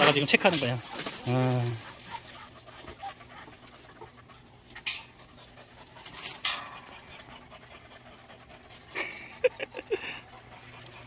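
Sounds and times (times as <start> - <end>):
dogs panting hard: 0.0 - 11.0.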